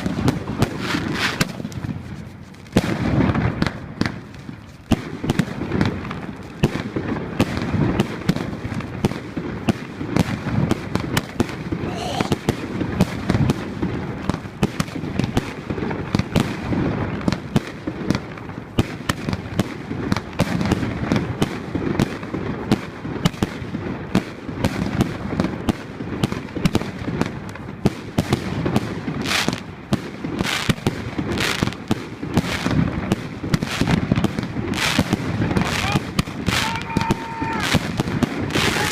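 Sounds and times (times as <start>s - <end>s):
fireworks hissing bursts: 0.0s - 21.6s, 27.1s - 38.9s
fireworks bangs and crackles: 0.0s - 38.9s.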